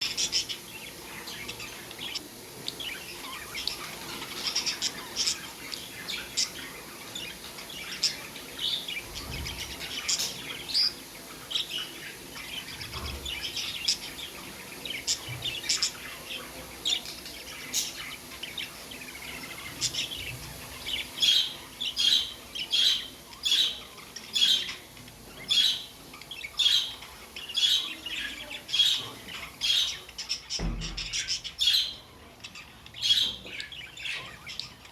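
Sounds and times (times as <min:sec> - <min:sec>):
budgies chirping: 0:00.0 - 0:34.9.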